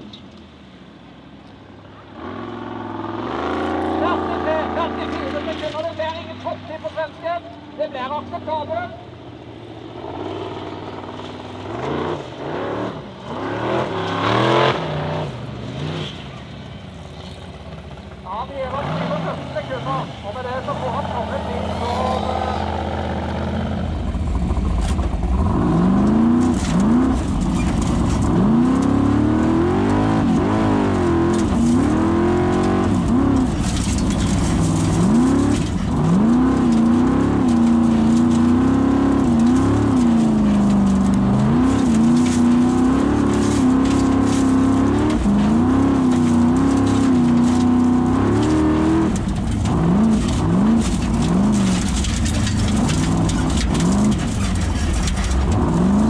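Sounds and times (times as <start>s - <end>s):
buggy engine revving hard: 2.0s - 7.4s, 9.8s - 16.3s, 17.2s - 56.0s.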